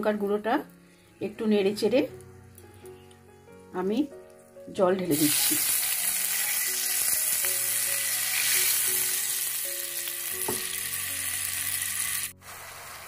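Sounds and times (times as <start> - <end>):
oil and spices sizzling in a wok: 0.0 - 2.8, 3.7 - 13.0.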